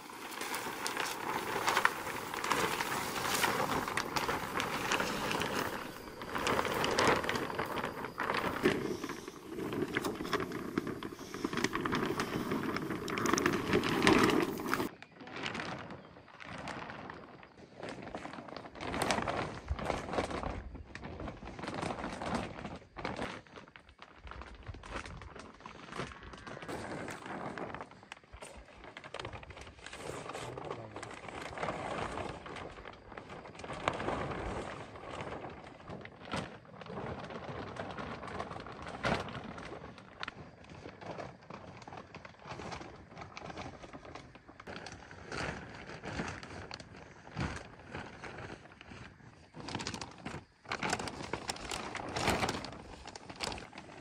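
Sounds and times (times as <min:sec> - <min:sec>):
plastic sheeting rustling and crackling: 0:00.0 - 0:54.0.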